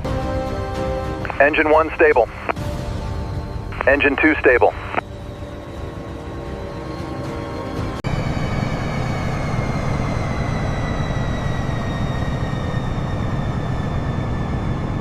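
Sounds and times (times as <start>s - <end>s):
aircraft turbine engines roaring: 0.0s - 15.0s.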